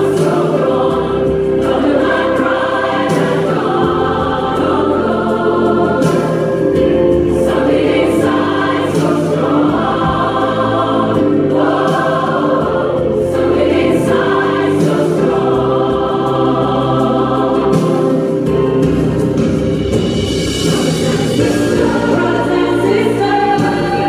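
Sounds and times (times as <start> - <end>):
choir singing in harmony: 0.0 - 24.0.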